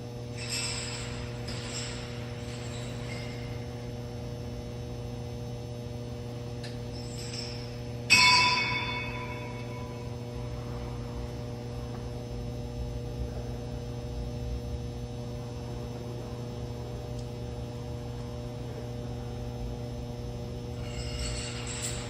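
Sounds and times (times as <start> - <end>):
machine electrical hum: 0.0 - 22.0.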